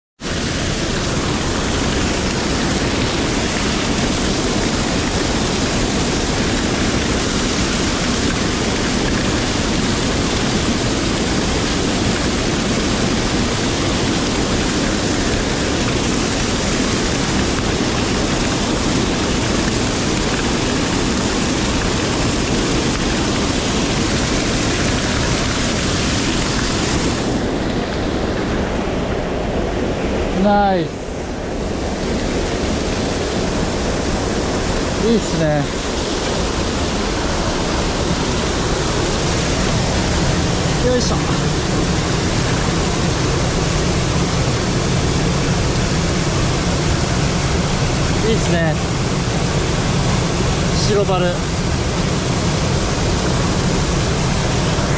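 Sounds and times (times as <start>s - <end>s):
stream water rushing: 0.2s - 54.9s.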